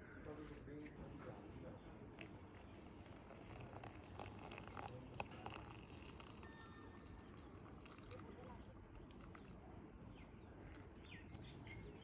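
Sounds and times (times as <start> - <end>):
crickets chirring: 1.4 - 12.0.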